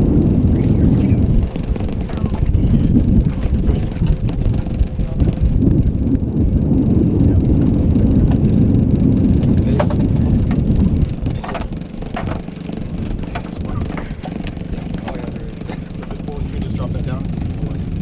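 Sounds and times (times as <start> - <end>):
outboard motor running: 0.0 - 18.0
wind on microphone: 0.0 - 18.0.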